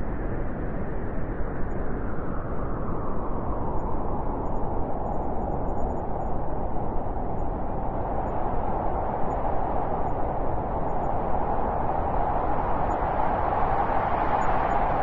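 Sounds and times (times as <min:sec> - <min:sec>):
howling blizzard wind: 0:00.0 - 0:15.0.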